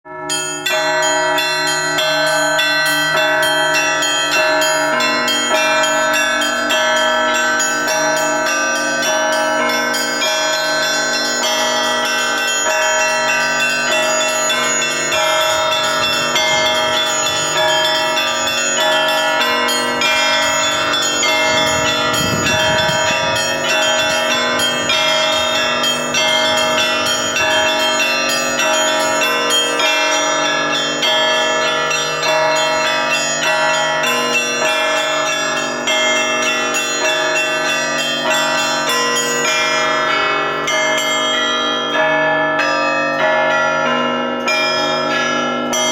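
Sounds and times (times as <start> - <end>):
church bells pealing: 0.0 - 45.9.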